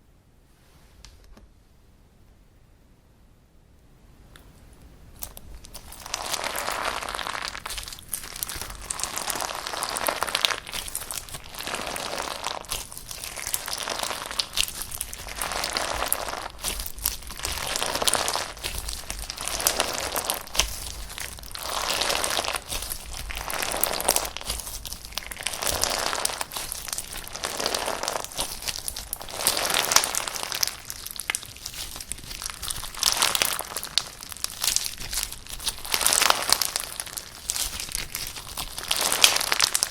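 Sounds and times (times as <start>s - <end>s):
slime crackling and popping: 5.2s - 39.9s.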